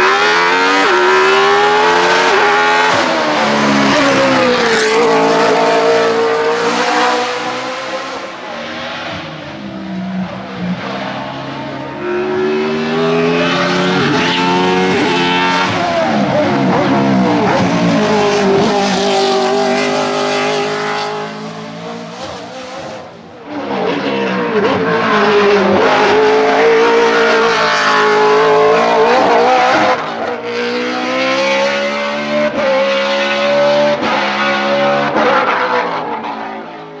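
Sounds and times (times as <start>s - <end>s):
racing car engine revving uphill: 0.0s - 37.0s.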